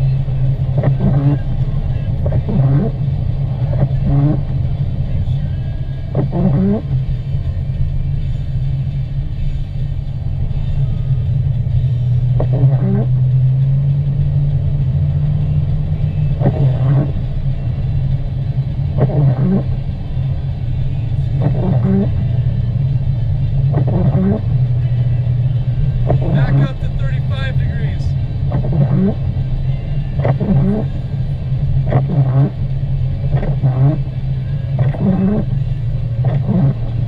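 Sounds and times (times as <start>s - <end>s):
car engine and tyres rumbling: 0.0s - 37.0s.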